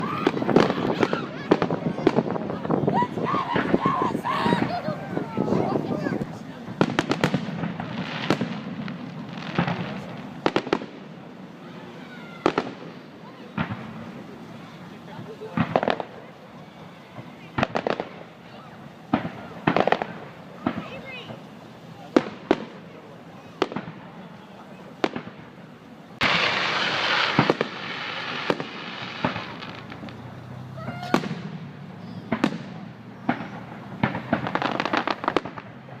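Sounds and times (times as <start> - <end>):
firework bangs: 0.0 - 36.0
fireworks crackling: 0.0 - 36.0.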